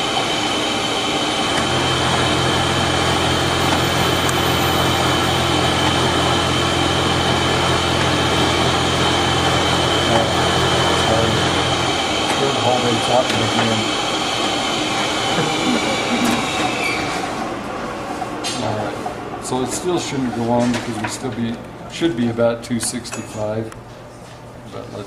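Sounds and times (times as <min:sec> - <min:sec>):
lathe machine hum: 0:00.0 - 0:22.7
high background whine: 0:00.0 - 0:25.0.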